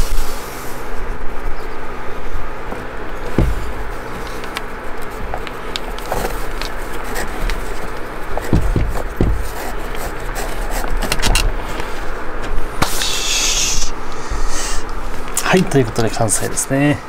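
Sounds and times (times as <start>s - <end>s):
low rumble and hum: 0.0s - 16.2s.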